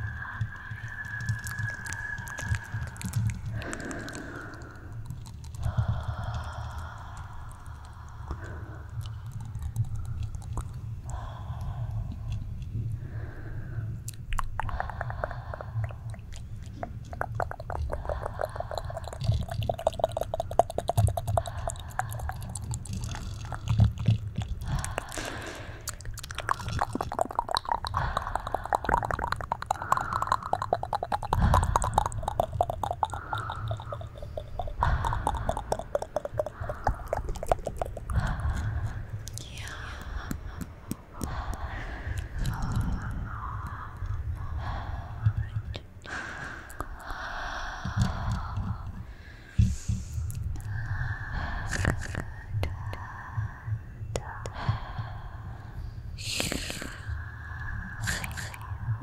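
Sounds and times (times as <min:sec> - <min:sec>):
wet mouth clicks and smacks: 0:00.0 - 0:12.4, 0:14.0 - 0:44.2, 0:45.4 - 0:47.3, 0:47.9 - 0:49.0, 0:49.6 - 0:53.0, 0:54.1 - 0:54.6, 0:56.2 - 0:57.1, 0:58.0 - 0:58.8
low steady rumble: 0:00.0 - 0:59.0.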